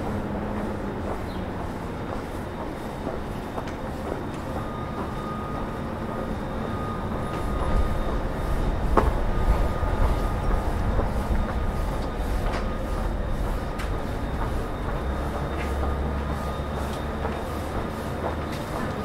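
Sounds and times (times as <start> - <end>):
thin steady squeal: 0.0 - 18.2
train rumbling past: 0.0 - 19.0.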